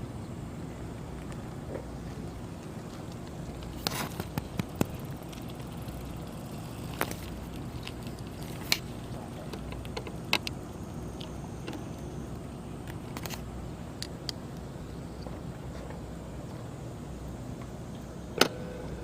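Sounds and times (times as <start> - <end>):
boat diesel engine rumbling: 0.0 - 19.0.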